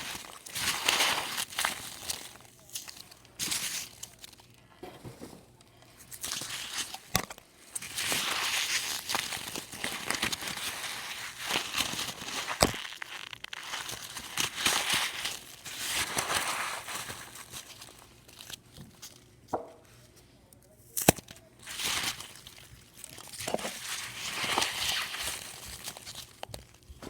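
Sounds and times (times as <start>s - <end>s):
packing peanuts crackling: 0.0s - 19.4s, 20.6s - 27.0s.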